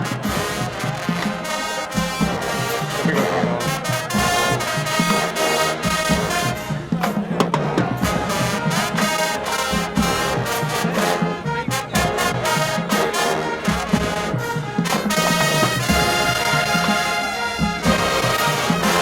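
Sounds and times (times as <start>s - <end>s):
drumline percussion: 0.0s - 19.0s
marching band brass section: 0.0s - 19.0s.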